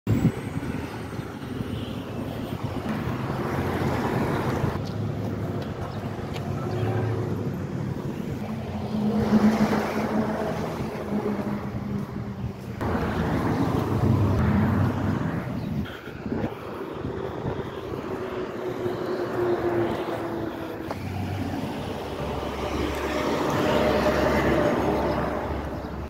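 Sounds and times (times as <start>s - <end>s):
vehicles driving past: 0.1s - 26.0s.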